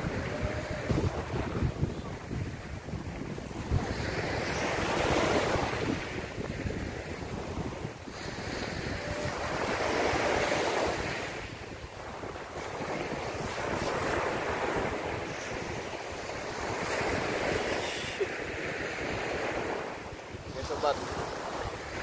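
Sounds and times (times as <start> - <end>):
waves breaking on beach: 0.0 - 22.0
wind buffeting microphone: 0.0 - 22.0.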